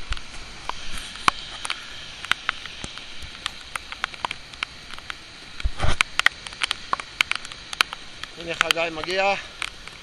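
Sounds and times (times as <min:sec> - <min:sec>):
heavy rain on a wet street: 0:00.0 - 0:10.0.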